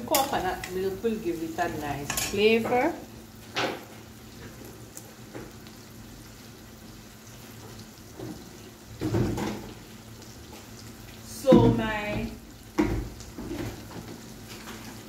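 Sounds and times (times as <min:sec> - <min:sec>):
vegetables sizzling in butter: 0:00.0 - 0:15.0.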